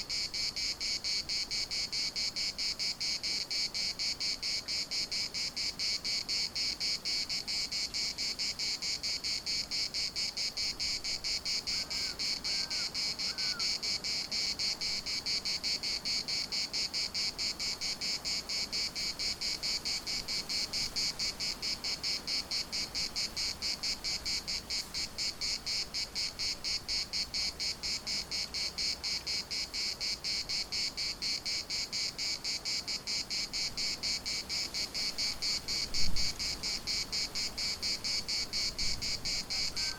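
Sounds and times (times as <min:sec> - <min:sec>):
cicadas singing: 0:00.0 - 0:39.9.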